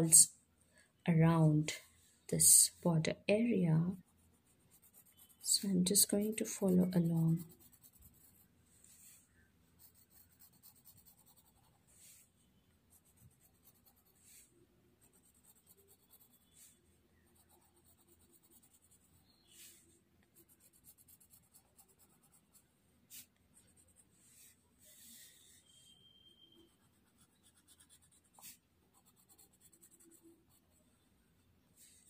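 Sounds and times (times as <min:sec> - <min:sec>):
drawing tool scratching on paper: 0:04.0 - 0:09.2, 0:09.8 - 0:12.3, 0:12.9 - 0:31.0.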